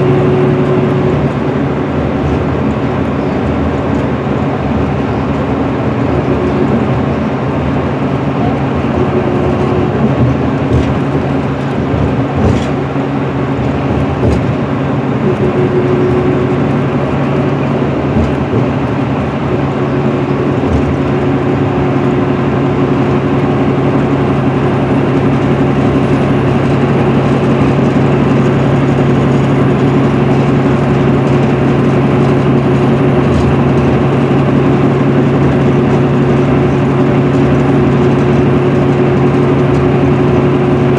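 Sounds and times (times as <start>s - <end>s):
diesel engine droning: 0.0s - 40.9s
tyre and road noise: 0.0s - 40.9s.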